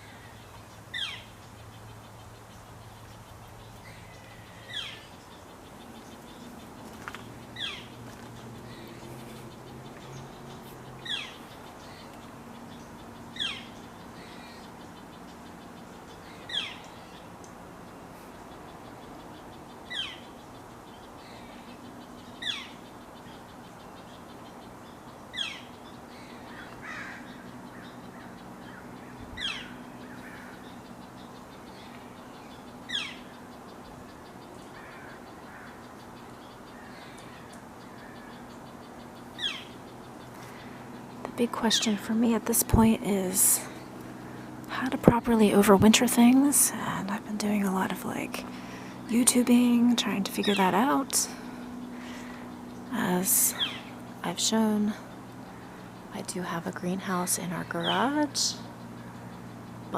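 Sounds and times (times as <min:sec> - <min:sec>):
bird calling: 0:00.0 - 0:59.9
faint low hum: 0:00.0 - 0:59.9.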